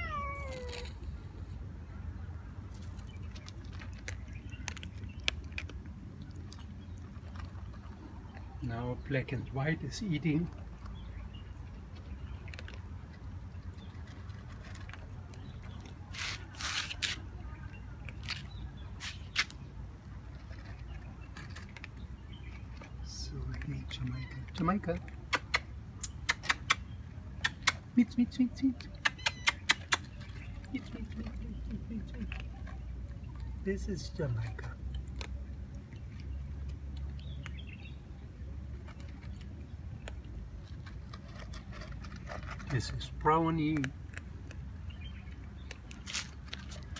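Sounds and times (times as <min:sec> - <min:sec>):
cats crunching dry kibble: 0:00.0 - 0:01.8, 0:02.5 - 0:46.9.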